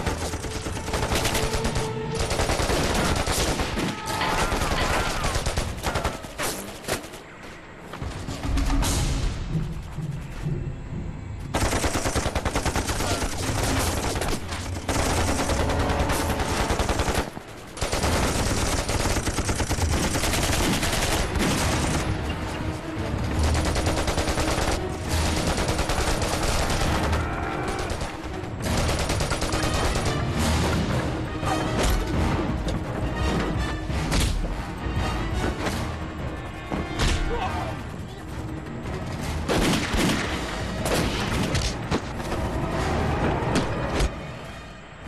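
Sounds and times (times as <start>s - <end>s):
film score: 0.0s - 45.0s.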